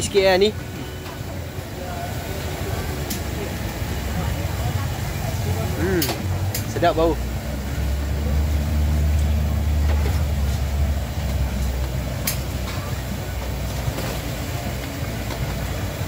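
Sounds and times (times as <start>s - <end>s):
deep-frying sizzle: 0.1s - 16.0s.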